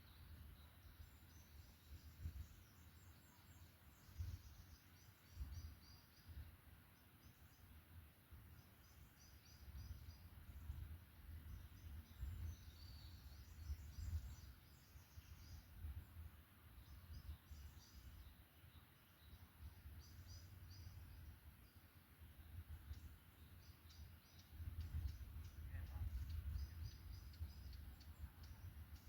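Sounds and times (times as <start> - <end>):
faint birdsong: 0.0 - 29.0.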